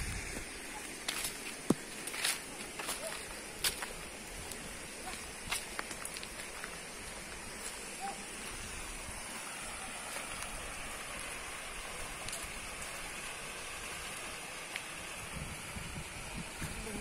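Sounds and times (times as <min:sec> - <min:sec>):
running water hissing: 0:00.0 - 0:17.0.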